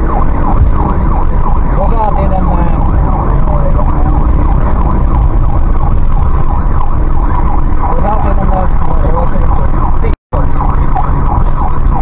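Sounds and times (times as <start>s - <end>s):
car engine and road rumble: 0.0s - 12.0s
siren wailing: 0.0s - 12.0s.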